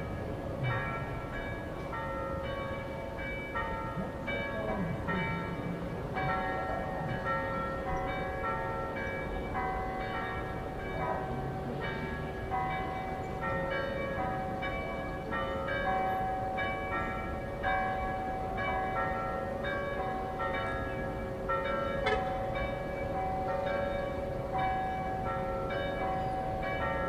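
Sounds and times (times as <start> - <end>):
church bells pealing: 0.0 - 27.0.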